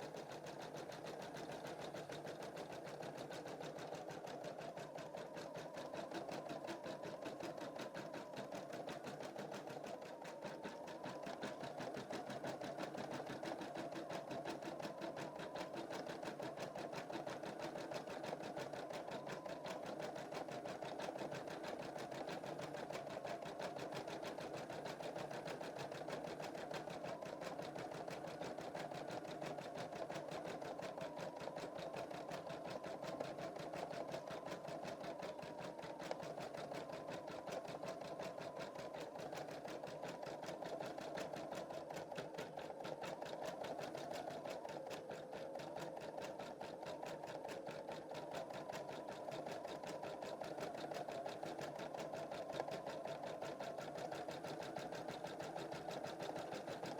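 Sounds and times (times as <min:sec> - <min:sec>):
embroidery machine stitching: 0:00.2 - 0:56.9.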